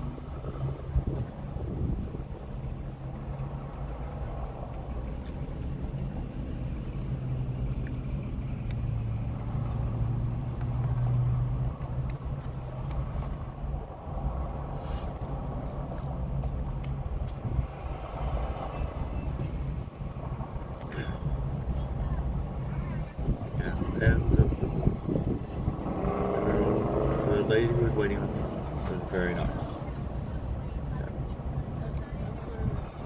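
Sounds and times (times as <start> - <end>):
low vehicle engine rumble: 0.0 - 33.0.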